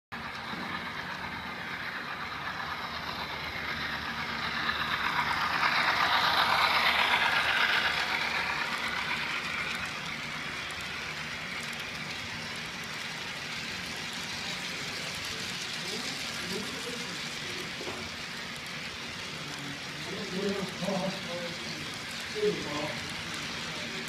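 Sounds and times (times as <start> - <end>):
model train running past: 0.2 - 24.0.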